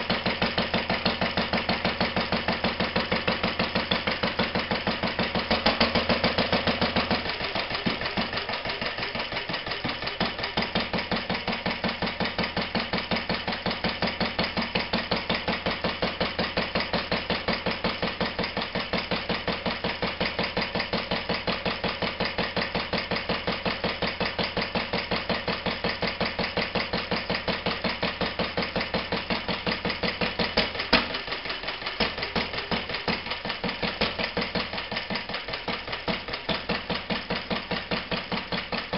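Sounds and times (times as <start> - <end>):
stationary engine running steadily: 0.0 - 38.9.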